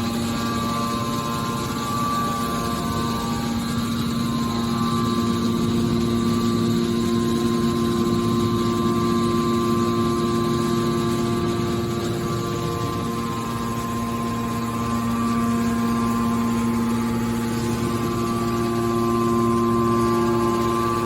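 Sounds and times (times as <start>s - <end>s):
hydraulic pump motor whining: 0.0s - 21.0s.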